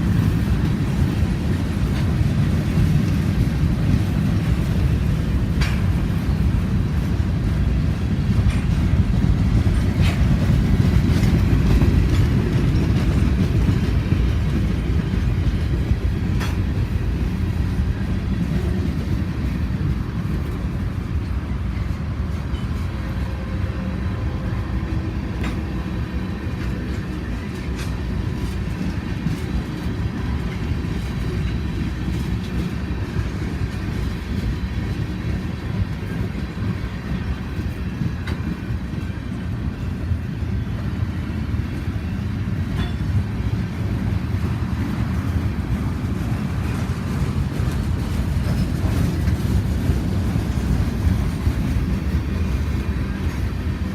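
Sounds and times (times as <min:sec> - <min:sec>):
train clicks and clanks: 0:00.0 - 0:53.9
train wheels rumbling on rails: 0:00.0 - 0:53.9.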